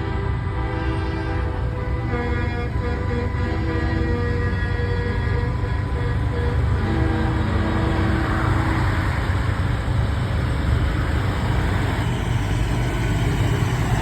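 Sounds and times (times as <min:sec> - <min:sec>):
diesel truck engines rumbling: 0:00.0 - 0:14.0
road noise: 0:00.0 - 0:14.0.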